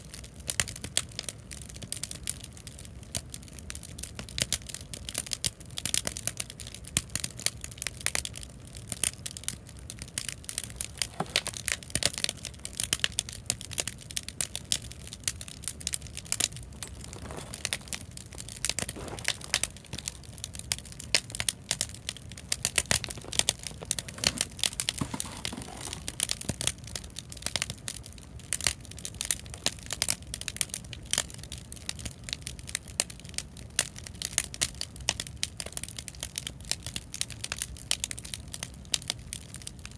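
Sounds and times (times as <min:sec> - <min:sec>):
bonfire crackling and popping: 0:00.0 - 0:39.9
low fire rumble: 0:02.0 - 0:39.9.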